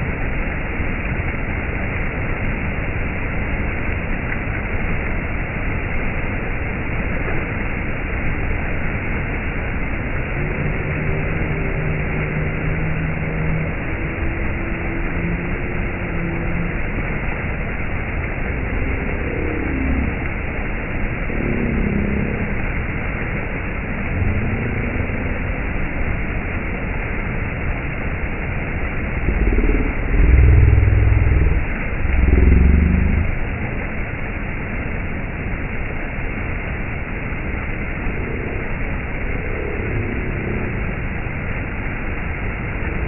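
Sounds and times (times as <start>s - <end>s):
low rumble with wavering tones: 0.0s - 43.0s
stream splashing over rocks: 0.0s - 43.0s.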